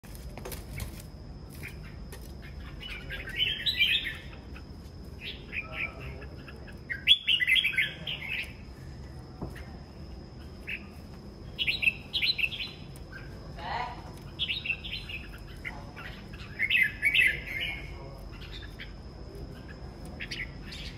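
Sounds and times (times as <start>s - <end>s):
bulbuls singing: 0.0s - 20.9s
faint steady high whine: 0.0s - 20.9s.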